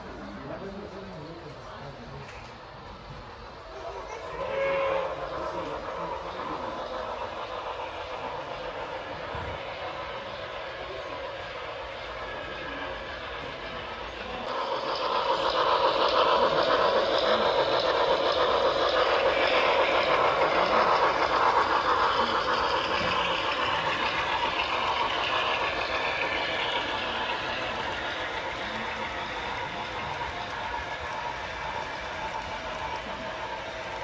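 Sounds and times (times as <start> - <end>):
model train running: 0.0 - 34.0.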